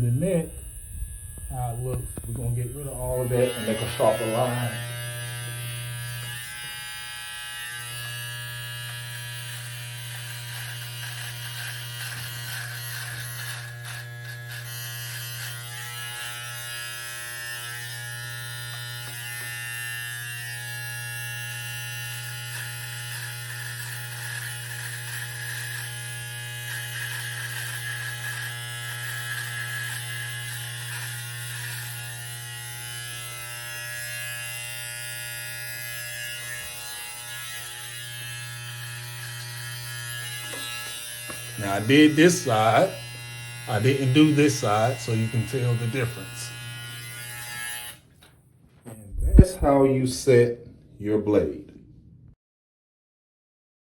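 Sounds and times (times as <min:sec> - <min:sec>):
hair trimmer buzzing: 0:00.0 - 0:48.4.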